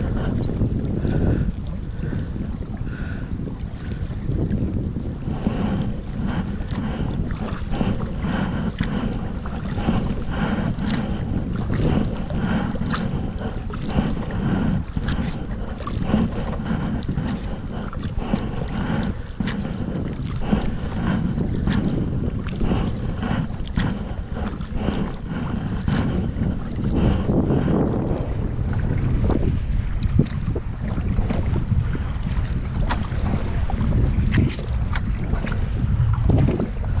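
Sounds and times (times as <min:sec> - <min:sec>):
paddle splashing in water: 0:00.0 - 0:37.0
wind buffeting microphone: 0:00.0 - 0:37.0.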